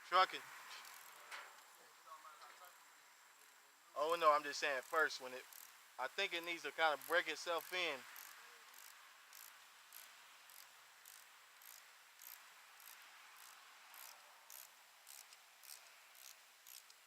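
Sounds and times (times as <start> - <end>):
soft steady hiss: 0.0 - 17.0
faint insect chirping: 0.2 - 17.0.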